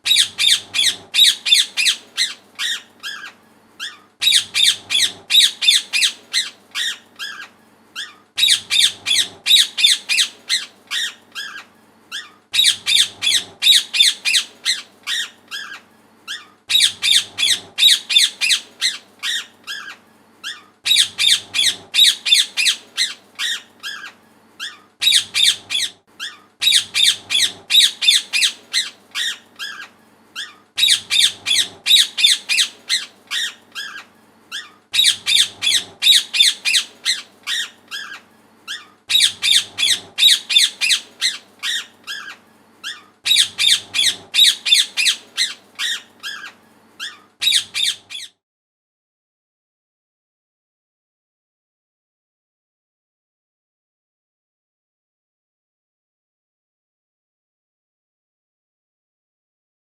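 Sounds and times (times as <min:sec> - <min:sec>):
parrot squawking: 0:00.0 - 0:48.4.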